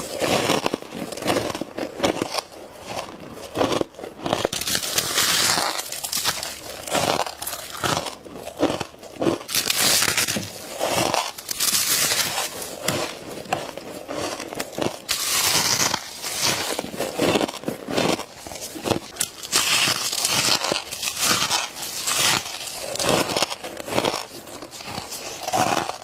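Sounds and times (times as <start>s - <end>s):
crunchy bites into ice: 0.0s - 26.0s.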